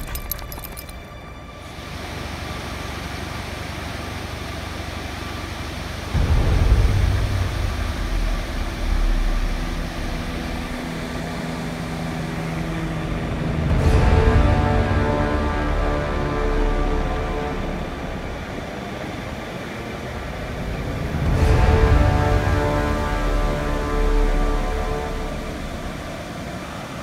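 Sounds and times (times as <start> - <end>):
helicopter drone overhead: 1.1 - 27.0
ocean surf washing in: 1.7 - 27.0.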